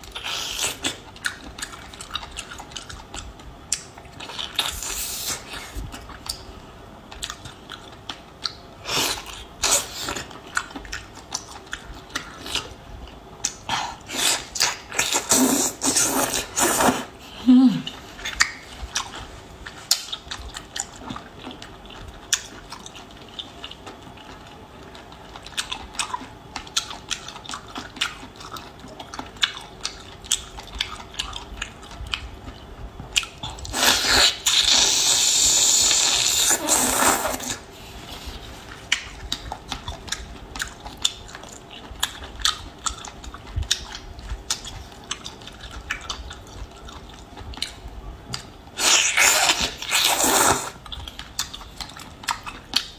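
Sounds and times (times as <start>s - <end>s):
chewing and biting seafood: 0.0s - 17.1s, 17.9s - 52.9s.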